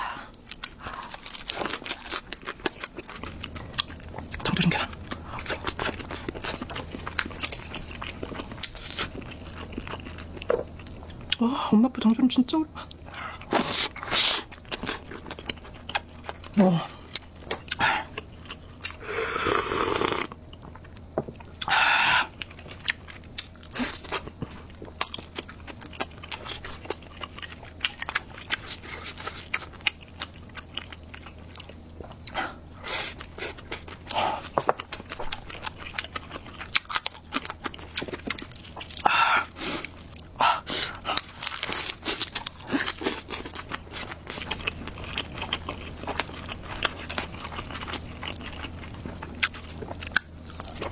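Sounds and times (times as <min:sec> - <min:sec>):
chewing and crunching food: 0:00.0 - 0:11.6, 0:12.7 - 0:50.9.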